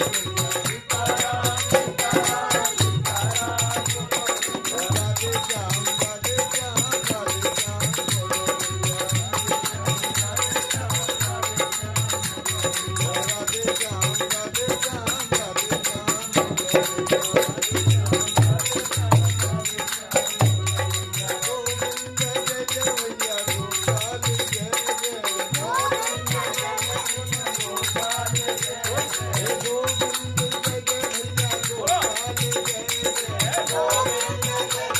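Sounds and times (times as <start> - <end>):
busy high percussion: 0.0 - 34.9.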